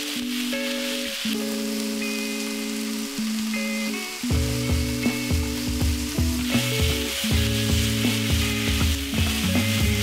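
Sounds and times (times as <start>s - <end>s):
background music: 0.0s - 10.0s
food sizzling in a wok: 0.0s - 10.0s.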